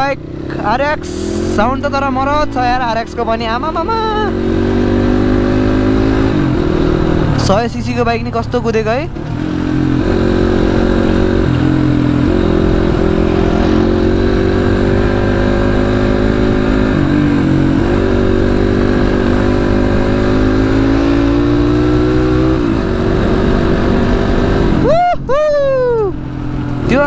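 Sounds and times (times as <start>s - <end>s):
motorcycle engine revving: 0.0s - 25.1s, 25.7s - 27.0s.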